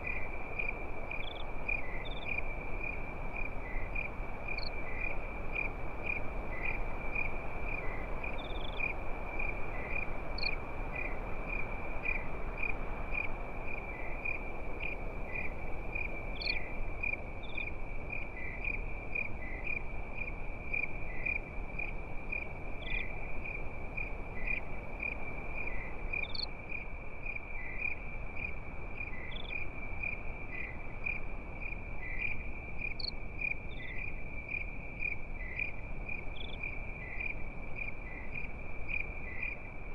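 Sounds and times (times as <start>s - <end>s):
crickets chirping: 0.0s - 39.9s
steady low hiss: 0.0s - 39.9s.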